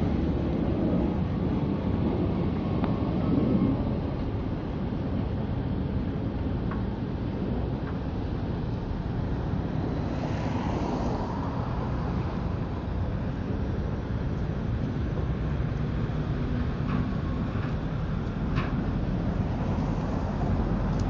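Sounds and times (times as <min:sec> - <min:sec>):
construction site noise: 0:00.0 - 0:21.0
road traffic rumble: 0:00.0 - 0:21.0
wind on microphone: 0:00.0 - 0:21.0.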